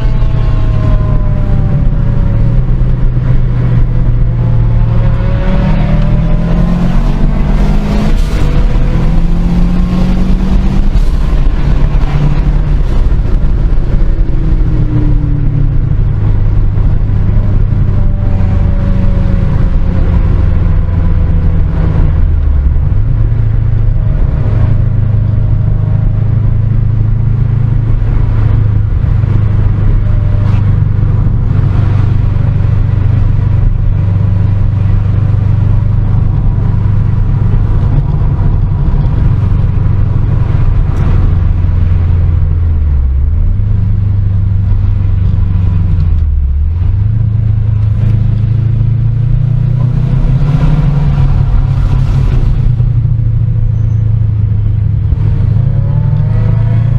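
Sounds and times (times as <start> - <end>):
sports car engine rumbling: 0.0 - 56.9.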